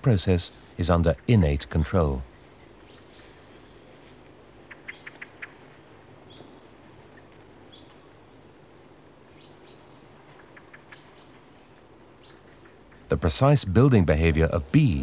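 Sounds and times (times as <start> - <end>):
low steady hiss and hum: 0.0 - 15.0.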